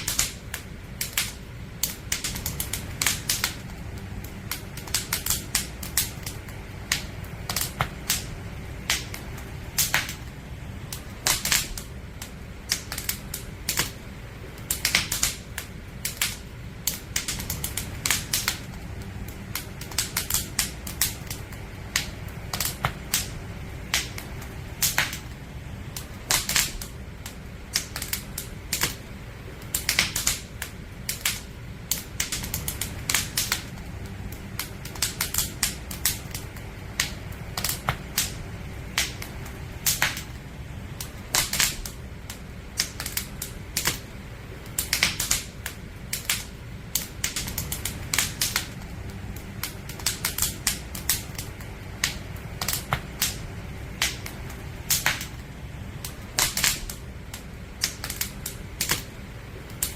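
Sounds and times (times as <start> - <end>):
campfire crackling and popping: 0.0 - 59.9
low rumble of fire: 0.0 - 59.9.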